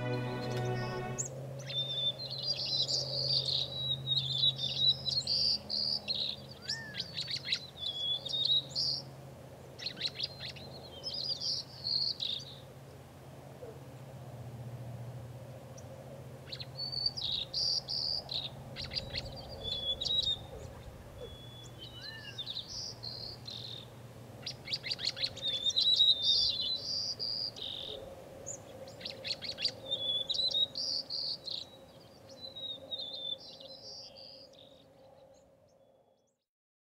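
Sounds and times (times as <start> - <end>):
birds singing: 0.0 - 9.1, 9.8 - 12.6, 15.8 - 36.0.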